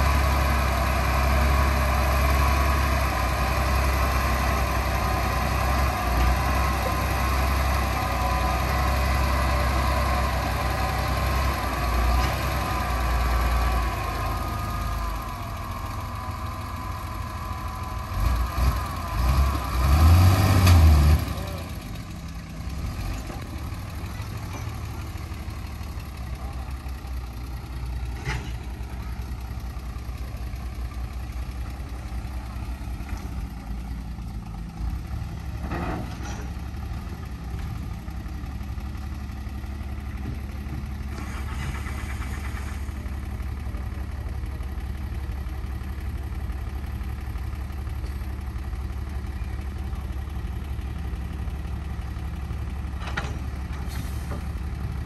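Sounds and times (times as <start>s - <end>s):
heavy diesel engine idling: 0.0s - 55.0s.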